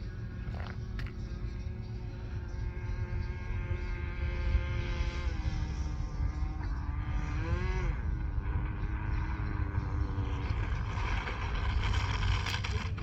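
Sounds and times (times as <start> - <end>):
low rumbling noise: 0.0 - 13.0
model plane engine running: 0.0 - 13.0.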